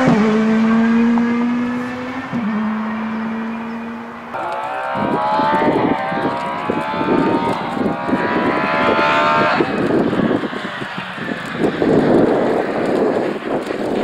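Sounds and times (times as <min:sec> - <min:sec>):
rally car engine pulling hard: 0:00.0 - 0:14.0
wind buffeting microphone: 0:00.0 - 0:14.0.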